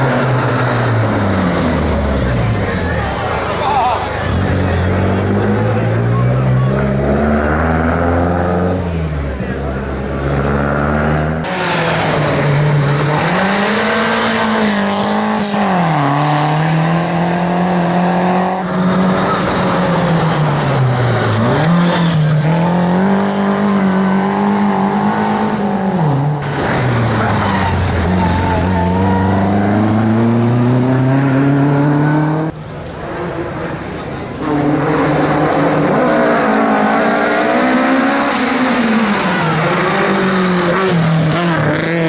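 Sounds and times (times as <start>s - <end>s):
rally car engines revving: 0.0s - 42.0s.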